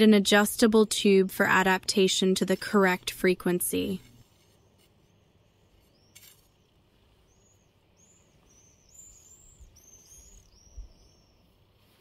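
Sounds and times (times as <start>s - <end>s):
quiet outdoor background: 0.0s - 12.0s
songbird chirping: 0.0s - 12.0s.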